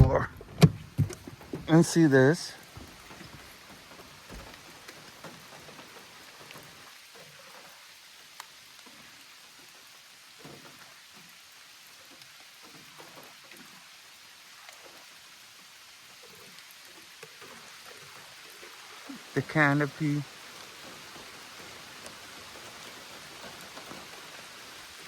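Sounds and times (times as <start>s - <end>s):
light rain hissing: 0.0s - 25.0s
raindrops ticking: 0.0s - 25.0s.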